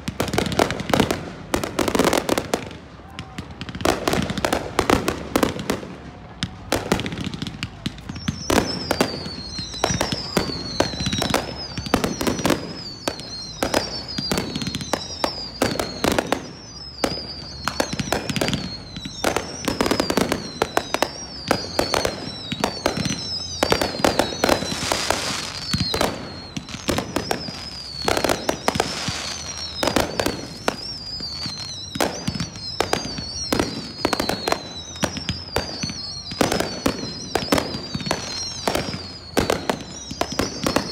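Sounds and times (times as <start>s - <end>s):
falling firework whistles: 0.0s - 40.9s
firework bangs and crackles: 0.0s - 40.9s.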